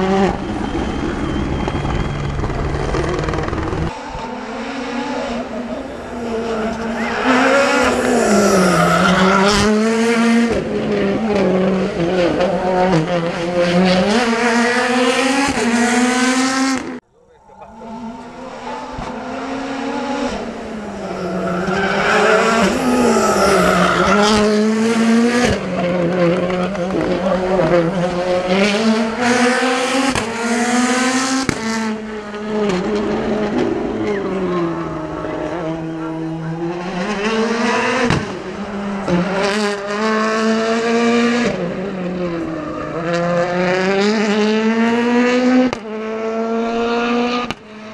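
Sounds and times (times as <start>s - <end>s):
rally car engine revving: 2.9s - 47.9s.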